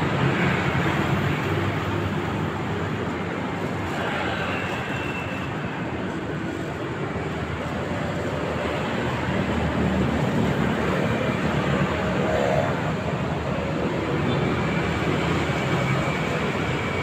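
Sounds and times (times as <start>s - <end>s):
street rumble and hiss: 0.0s - 17.0s.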